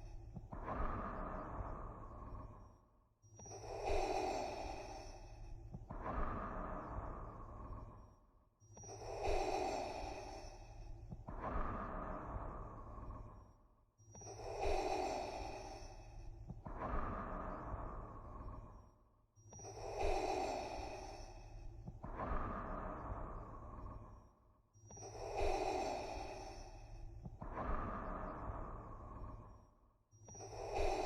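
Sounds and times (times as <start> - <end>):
breathing through a respirator mask: 3.4 - 8.1, 8.8 - 31.0.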